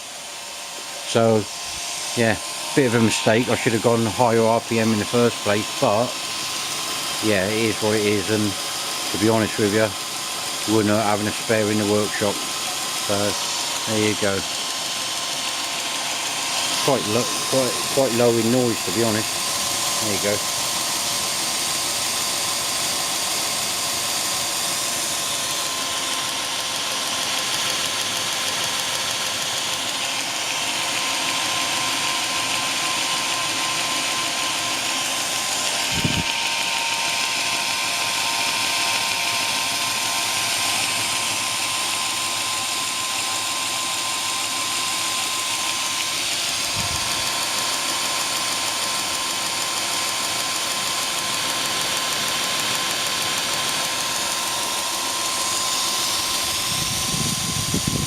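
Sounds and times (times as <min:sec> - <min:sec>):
belt grinder running: 0:00.0 - 0:58.0.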